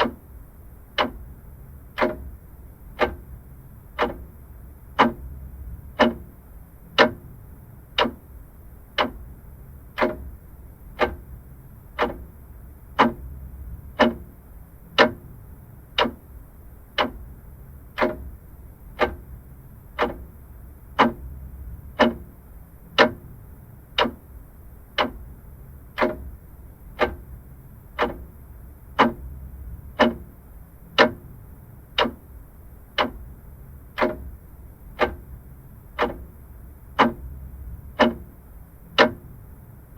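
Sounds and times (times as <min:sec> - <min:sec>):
mechanical clock ticking: 0:00.0 - 0:39.6
faint low rumble: 0:00.0 - 0:39.9.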